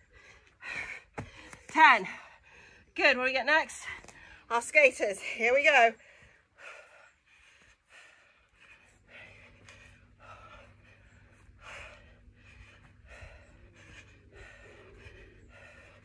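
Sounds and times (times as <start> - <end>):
woman breathing hard: 0.0 - 3.0, 6.0 - 16.0.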